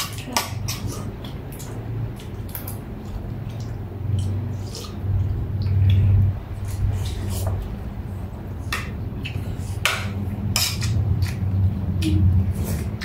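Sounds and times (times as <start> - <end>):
chewing and wet mouth sounds: 0.0 - 7.8, 8.6 - 13.0.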